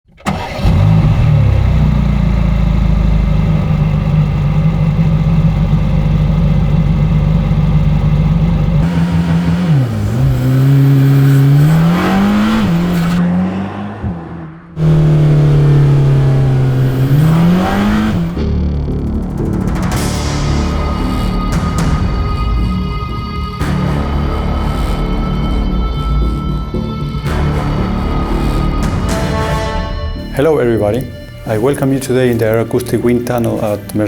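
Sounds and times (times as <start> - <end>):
car engine revving: 0.1 - 34.0.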